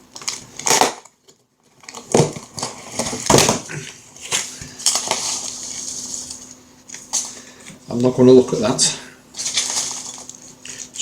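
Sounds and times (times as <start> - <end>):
parcel packaging tearing and rustling: 0.1 - 7.4, 9.4 - 11.0.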